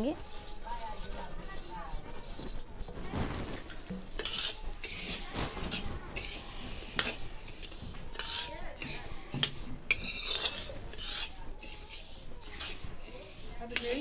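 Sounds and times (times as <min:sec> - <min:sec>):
seeds scraping in a pan: 0:00.0 - 0:14.0.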